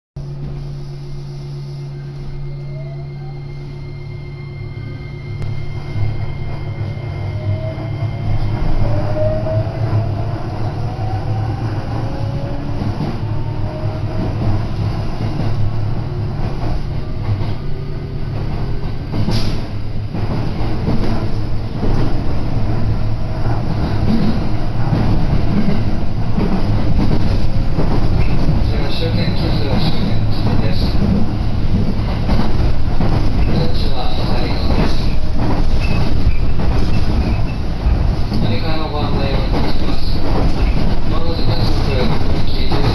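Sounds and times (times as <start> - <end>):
train wheels rumbling on rails: 0.2 - 42.9.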